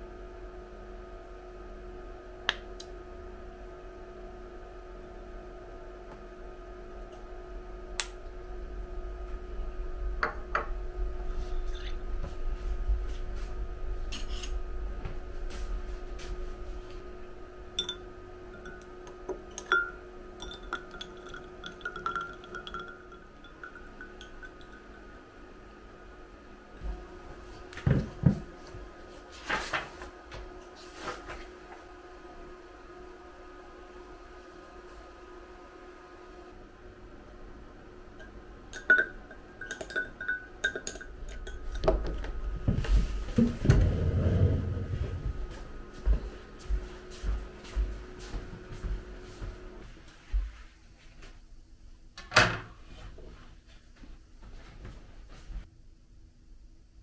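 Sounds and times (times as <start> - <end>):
low room tone hum: 0.0 - 57.0.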